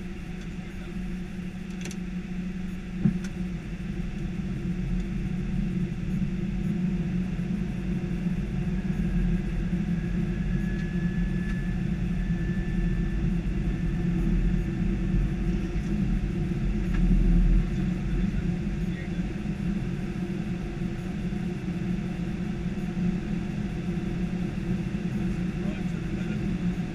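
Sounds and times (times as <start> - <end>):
airflow and engine rumble: 0.0 - 26.9.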